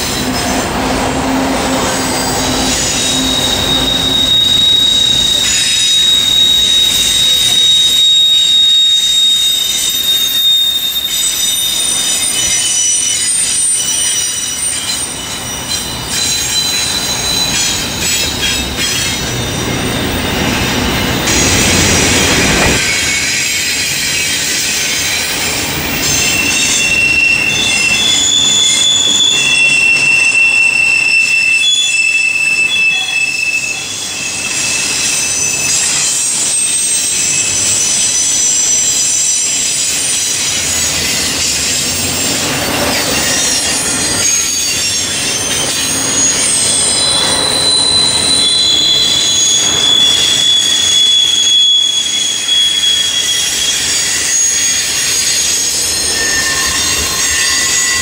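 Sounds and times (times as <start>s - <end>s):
high-pitched wheel squeals: 0.0s - 58.0s
steel wheels rumbling on rail: 0.0s - 58.0s.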